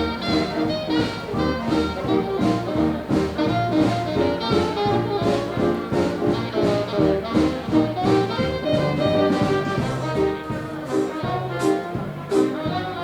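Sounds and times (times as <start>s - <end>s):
swing jazz with brass: 0.0s - 13.0s.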